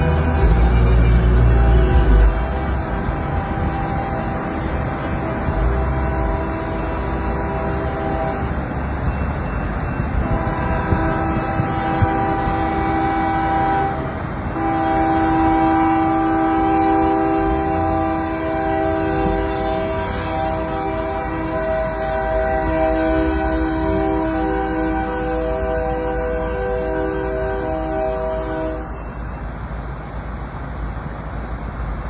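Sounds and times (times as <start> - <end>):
locomotive air horn chord: 0.0 - 9.2, 10.0 - 29.4
moving train rumble: 0.0 - 32.0.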